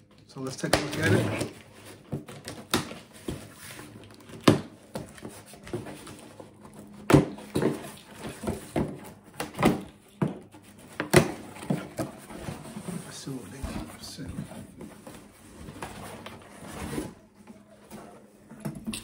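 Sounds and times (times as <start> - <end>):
cardboard rustling and scraping: 0.6 - 18.8.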